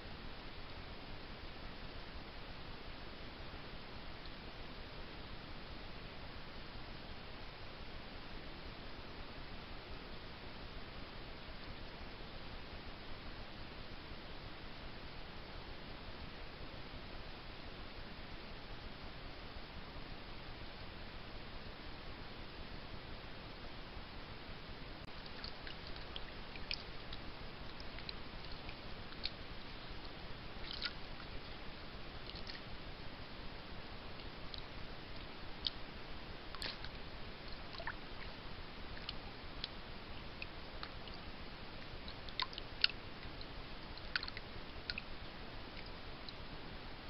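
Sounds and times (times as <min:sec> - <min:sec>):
microphone hiss: 0:00.0 - 0:47.0.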